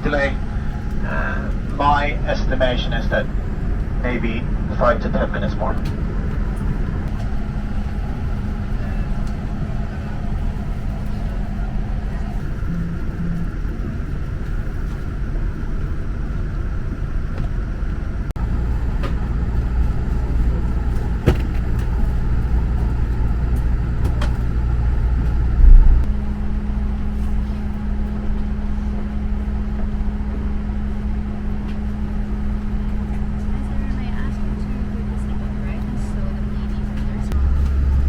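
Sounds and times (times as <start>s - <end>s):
airliner cabin hum: 0.0s - 38.0s.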